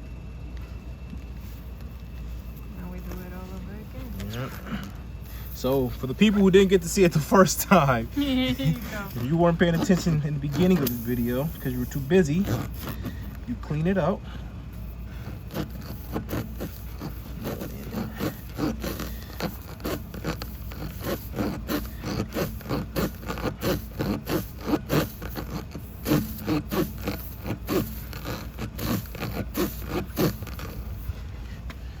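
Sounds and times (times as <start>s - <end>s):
reamer rasping in rubber tire: 1.4s - 32.0s.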